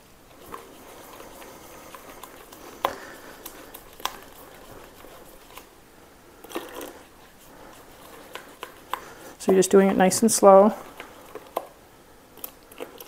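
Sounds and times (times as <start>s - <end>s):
liquid swishing in bowl: 0.2s - 11.8s.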